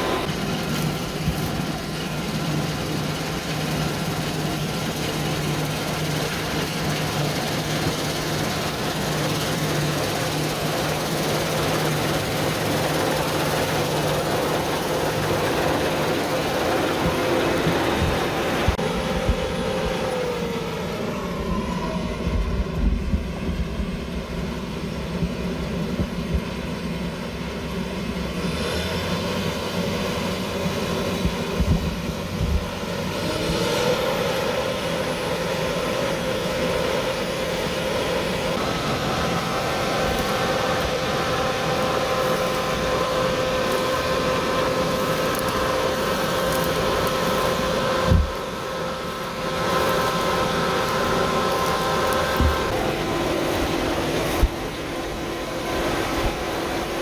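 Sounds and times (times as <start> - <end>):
combine harvester engine drone: 0.0 - 57.0
machinery whining: 0.0 - 57.0.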